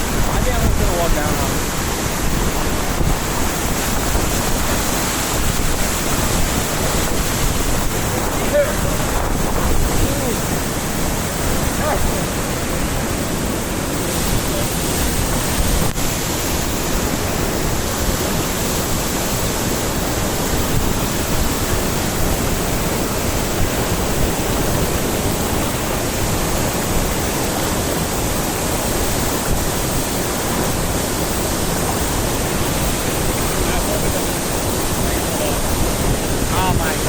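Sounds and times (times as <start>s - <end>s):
waterfall roaring: 0.0s - 37.0s.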